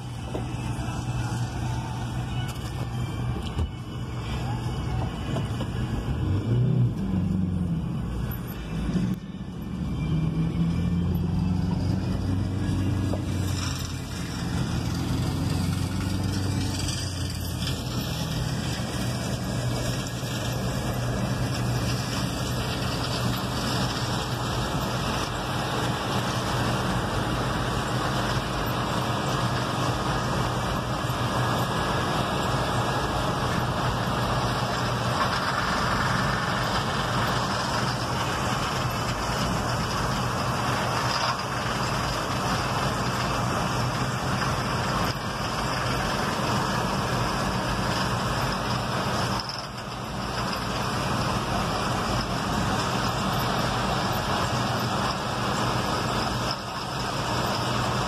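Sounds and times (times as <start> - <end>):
combine harvester running: 0.0 - 58.0
vehicle engine and tyre noise: 0.0 - 58.0.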